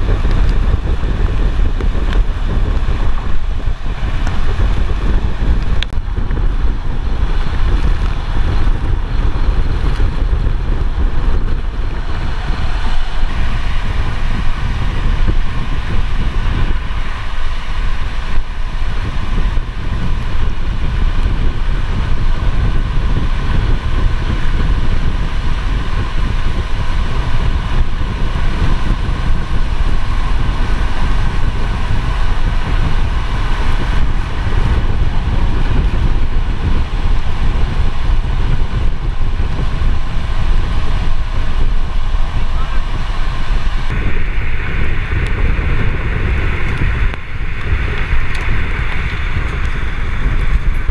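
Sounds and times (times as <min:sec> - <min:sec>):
faint steady whine: 0:00.0 - 0:50.9
storm wind buffeting microphone: 0:00.0 - 0:50.9
vehicle driving on wet road: 0:00.0 - 0:50.9.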